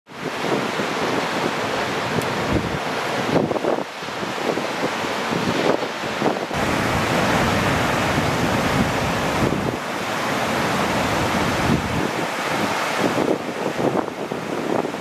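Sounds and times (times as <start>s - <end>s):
ocean surf breaking: 0.1s - 15.0s
wind buffeting microphone: 0.1s - 15.0s.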